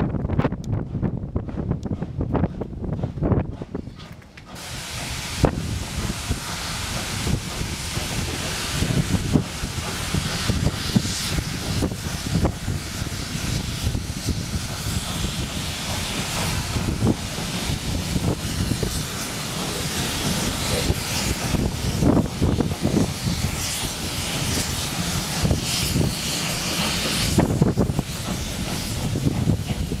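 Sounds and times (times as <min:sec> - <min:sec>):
steam locomotive hissing: 0:01.0 - 0:30.0.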